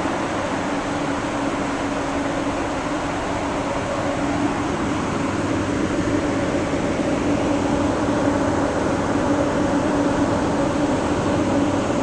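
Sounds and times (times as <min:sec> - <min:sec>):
ventilation system hum: 0:00.0 - 0:12.0.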